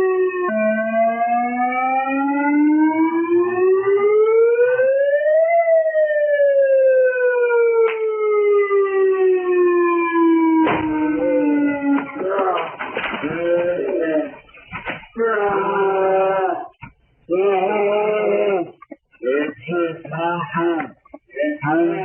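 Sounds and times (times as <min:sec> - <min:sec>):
wailing siren: 0:00.0 - 0:19.9, 0:21.6 - 0:22.0.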